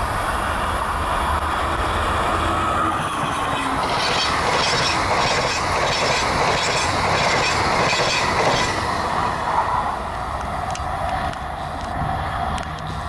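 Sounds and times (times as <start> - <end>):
train wheels rushing on rail: 0.0 - 13.0.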